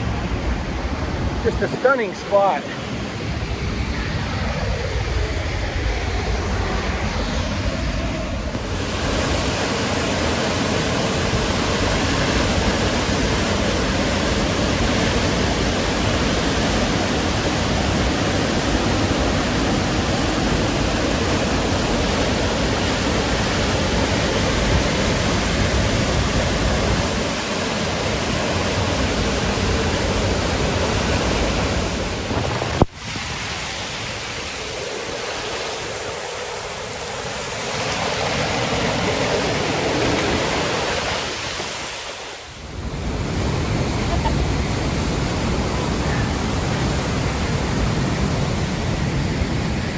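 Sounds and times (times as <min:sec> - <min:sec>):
waterfall rushing onto rocks: 0:08.5 - 0:49.9.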